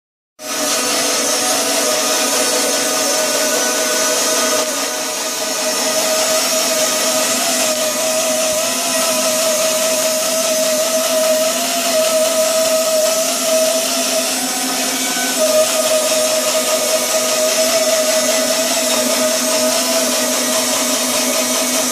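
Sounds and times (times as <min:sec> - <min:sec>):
band saw blade whine: 0:00.4 - 0:21.9
sawing hiss: 0:00.4 - 0:21.9.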